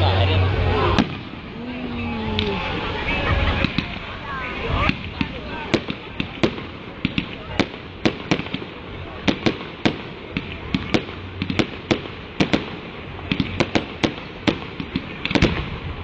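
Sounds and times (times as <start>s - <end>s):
fireworks bursting bangs: 0.4s - 16.0s.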